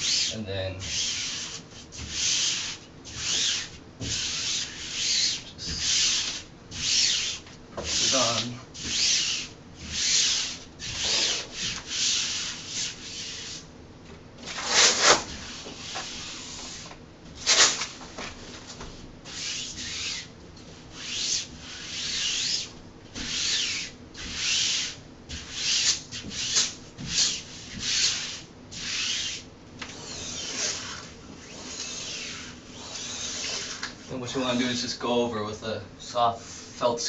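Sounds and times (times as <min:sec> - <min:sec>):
rubbing strokes on vinyl: 0:00.0 - 0:13.7, 0:14.5 - 0:16.9, 0:18.4 - 0:34.8.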